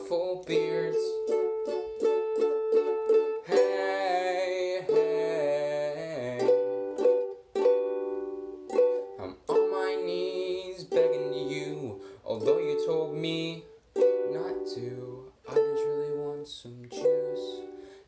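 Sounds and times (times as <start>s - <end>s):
strummed acoustic string instrument: 0.0s - 18.0s.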